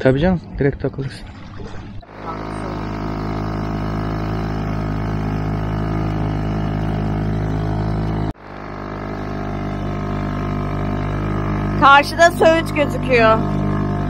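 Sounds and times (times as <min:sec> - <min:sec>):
outboard motor running: 0:01.0 - 0:14.0.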